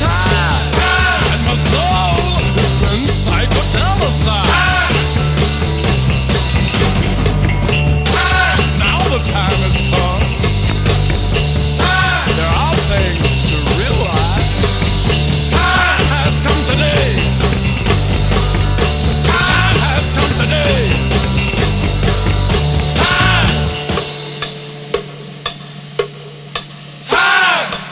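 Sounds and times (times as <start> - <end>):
instrumental rock music: 0.0 - 27.9.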